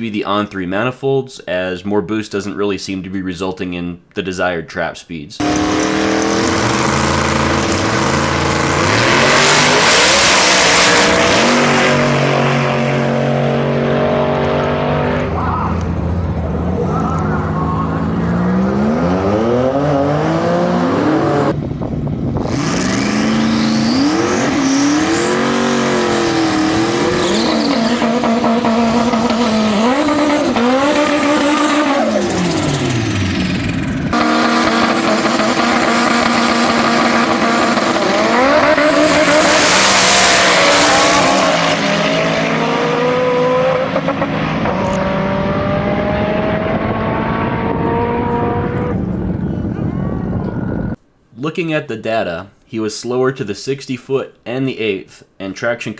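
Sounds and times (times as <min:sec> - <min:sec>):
car engine revving: 0:05.4 - 0:51.0.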